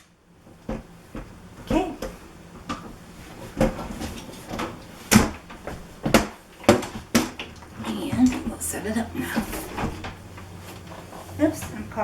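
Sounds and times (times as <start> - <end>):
bench frame knocking: 0.7 - 10.6.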